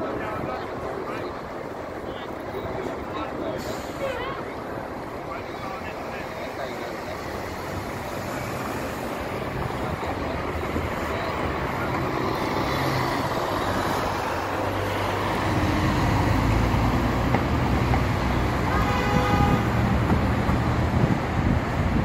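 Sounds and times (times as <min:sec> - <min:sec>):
bus driving past: 0:00.0 - 0:22.0
cars driving past: 0:00.0 - 0:22.0.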